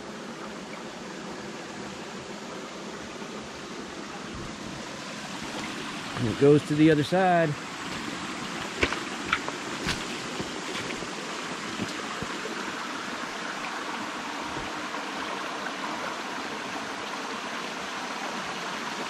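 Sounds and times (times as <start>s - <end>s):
creek running over stones: 0.0s - 19.0s.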